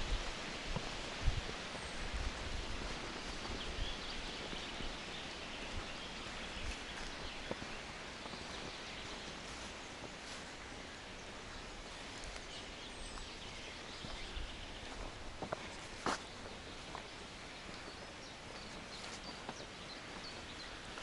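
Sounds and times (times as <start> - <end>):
rustling hiss: 0.0 - 21.0.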